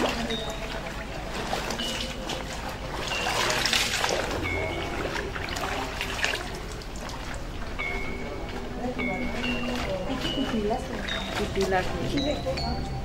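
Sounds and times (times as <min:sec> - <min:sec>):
wet cloth splashing in water: 0:00.0 - 0:12.6
water trickling from a hose: 0:00.0 - 0:13.0.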